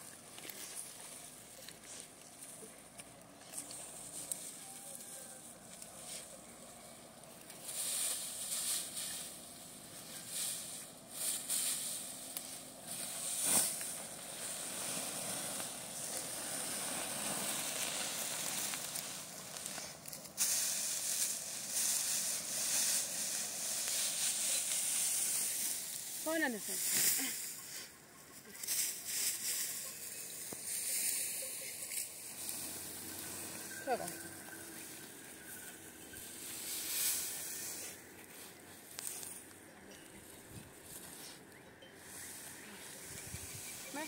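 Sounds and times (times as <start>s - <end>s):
dry grain stalks rustling: 0.0s - 44.0s.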